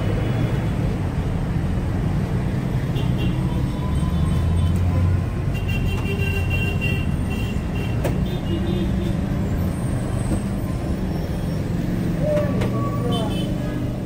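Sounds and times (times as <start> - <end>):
heavy road traffic rumble: 0.0 - 14.0.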